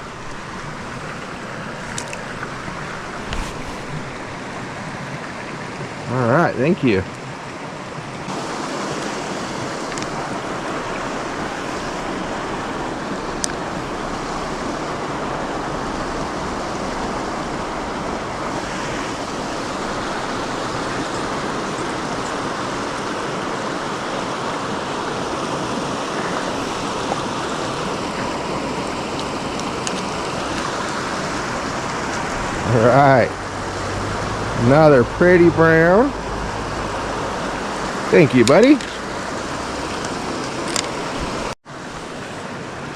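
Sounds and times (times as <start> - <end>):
mountain stream rushing: 0.0 - 42.9.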